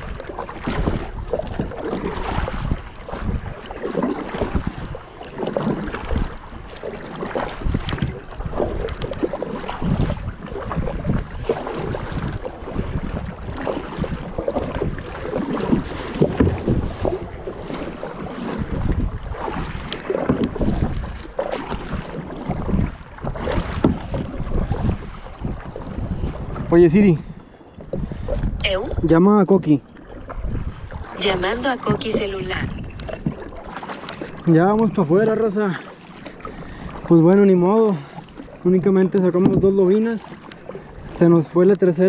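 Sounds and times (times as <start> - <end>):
kayak paddle splashing: 0.0 - 42.0
water washing against hull: 0.0 - 42.0
wind buffeting microphone: 0.0 - 42.0.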